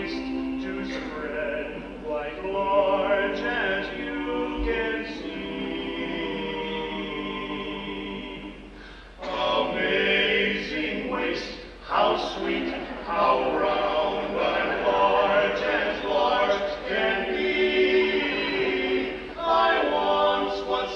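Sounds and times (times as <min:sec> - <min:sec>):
male quartet singing a cappella: 0:00.0 - 0:20.9.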